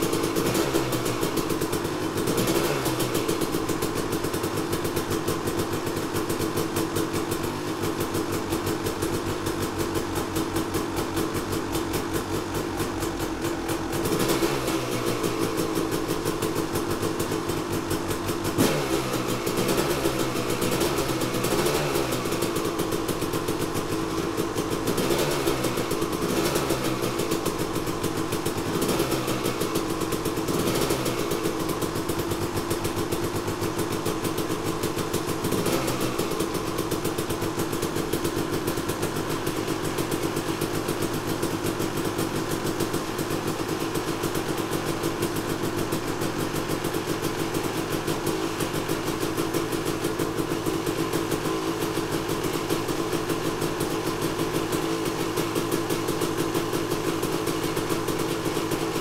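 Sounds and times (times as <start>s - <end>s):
two-stroke engine revving and idling: 0.0s - 59.0s.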